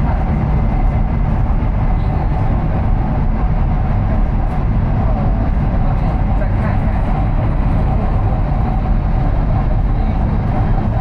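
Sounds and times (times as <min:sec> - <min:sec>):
train running inside carriage: 0:00.0 - 0:11.0.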